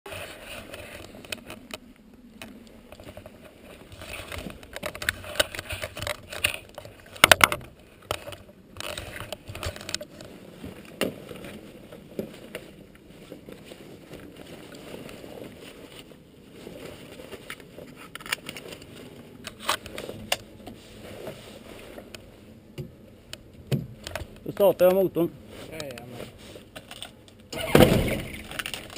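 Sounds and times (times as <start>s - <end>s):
clothing rustle: 0.1s - 23.3s, 25.4s - 28.9s.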